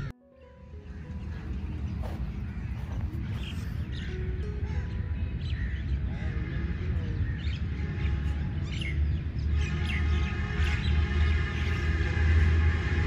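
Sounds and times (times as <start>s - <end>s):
birds chirping: 0.0s - 12.3s
steady drone: 0.7s - 13.0s.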